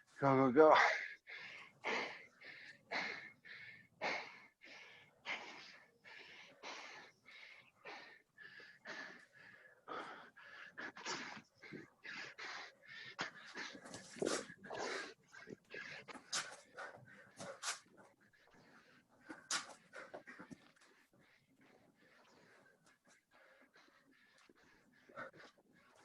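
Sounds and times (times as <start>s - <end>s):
hard rapid breathing: 0.0s - 26.0s.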